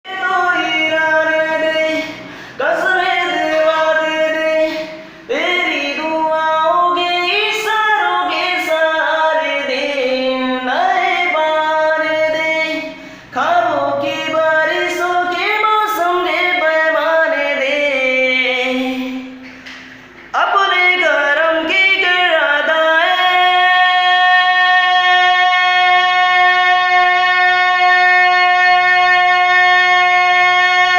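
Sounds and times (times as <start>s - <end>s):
person singing wordless melody: 0.0s - 19.6s, 20.2s - 30.9s.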